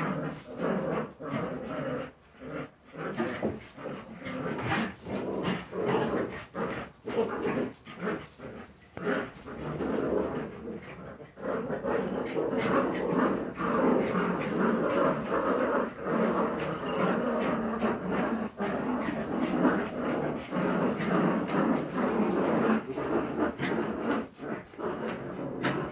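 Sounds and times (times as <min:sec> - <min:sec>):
puppies making play noises: 0:00.0 - 0:25.9.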